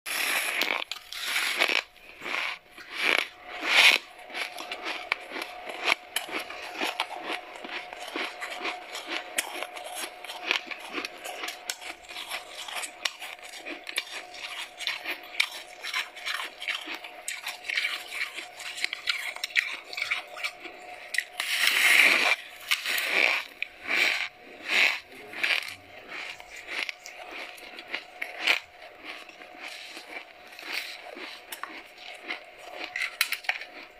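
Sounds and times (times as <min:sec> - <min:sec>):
frost being chewed: 0:00.1 - 0:33.9.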